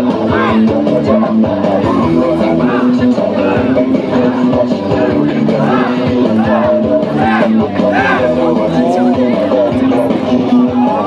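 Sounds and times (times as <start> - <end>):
loud dance music with beat: 0.0 - 11.0.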